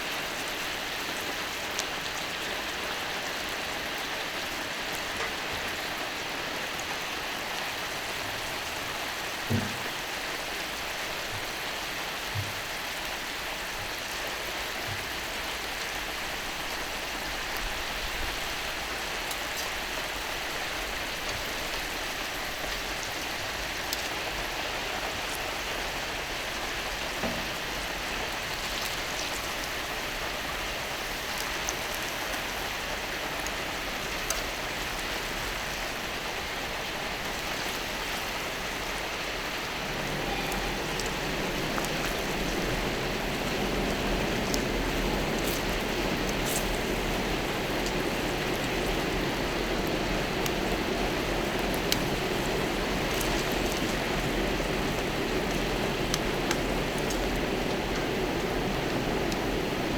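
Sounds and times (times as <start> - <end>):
meat sizzling on a griddle: 0.1 - 59.8.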